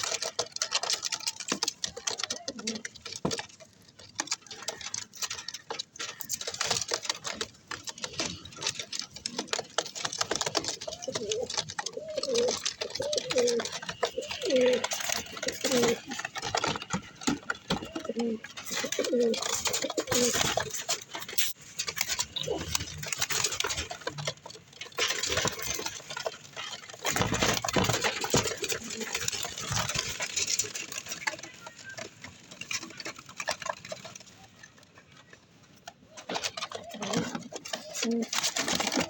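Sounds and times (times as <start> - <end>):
pigeons cooing: 0.0 - 3.5, 4.1 - 34.2, 36.1 - 39.0
scratchy clicks and rustling: 0.0 - 39.0.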